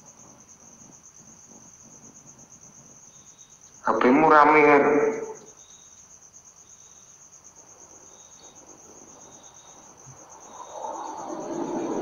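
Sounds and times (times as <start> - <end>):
crickets trilling: 0.0 - 12.0
faint cricket chirp: 0.0 - 12.0.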